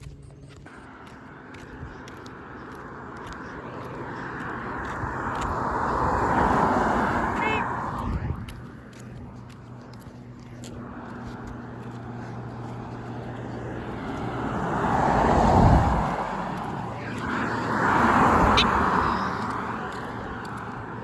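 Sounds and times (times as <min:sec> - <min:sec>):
vehicles driving past: 0:00.0 - 0:21.0.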